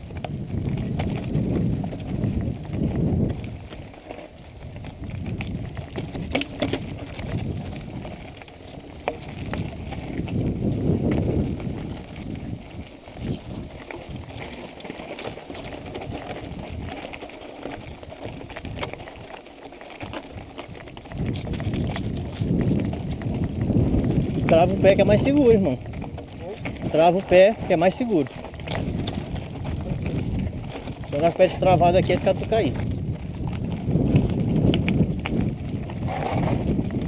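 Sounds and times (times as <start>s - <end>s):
bike rattling over bumps: 0.0s - 37.0s
bike tyres crunching on stones: 0.0s - 37.0s.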